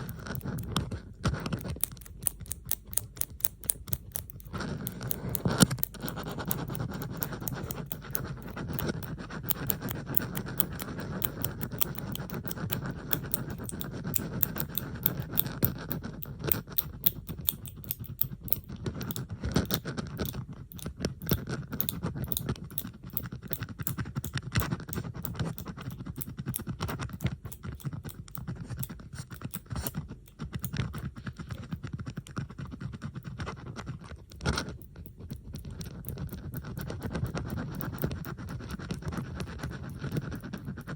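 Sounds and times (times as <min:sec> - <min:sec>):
metal bobby pins clicking and scratching: 0:00.0 - 0:40.9.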